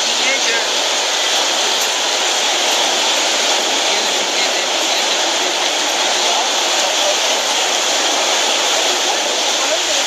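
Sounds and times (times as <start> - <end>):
surf washing onto shore: 0.0 - 10.0.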